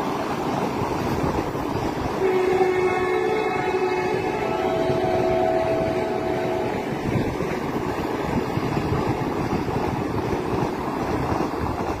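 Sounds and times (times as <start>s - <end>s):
electric train rumbling on rails: 0.0s - 12.0s.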